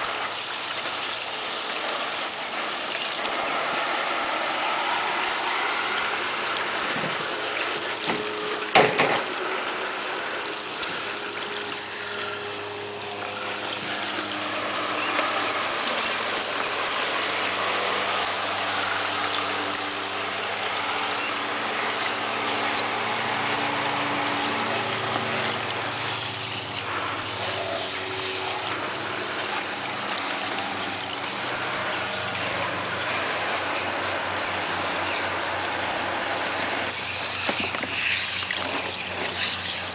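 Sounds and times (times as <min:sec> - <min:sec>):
hose spraying water into pool: 0:00.0 - 0:39.9.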